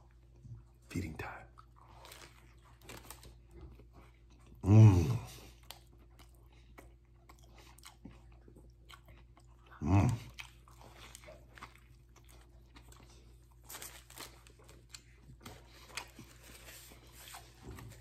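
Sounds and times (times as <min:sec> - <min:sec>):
wet chewing and crunching: 0:00.0 - 0:18.0.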